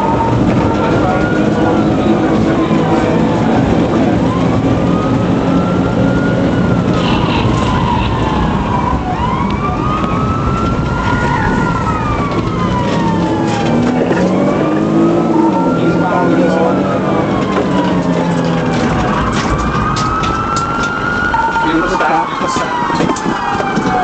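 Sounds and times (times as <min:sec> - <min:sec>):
car engine and road noise: 0:00.0 - 0:24.0
police siren wailing: 0:00.0 - 0:24.0.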